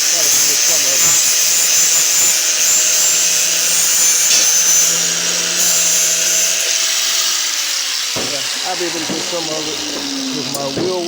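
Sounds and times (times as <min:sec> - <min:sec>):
angle grinder cutting metal: 0:00.0 - 0:11.0.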